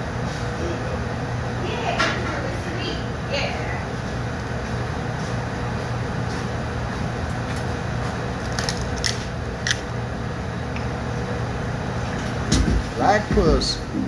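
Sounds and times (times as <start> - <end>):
background hiss and hum: 0.0 - 14.0.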